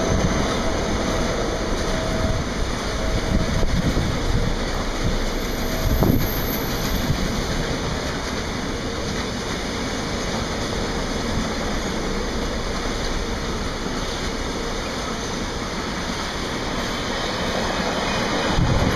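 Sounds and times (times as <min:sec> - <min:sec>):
freight wagons rumbling on rails: 0:00.0 - 0:18.9.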